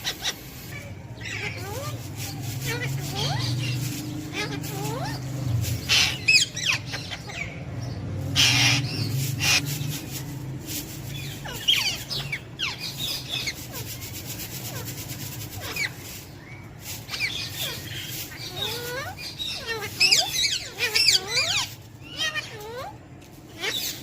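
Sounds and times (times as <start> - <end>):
scraping rubbing noise: 0.0 - 7.0, 8.3 - 22.4
parrot chirping and squawking: 0.0 - 24.0.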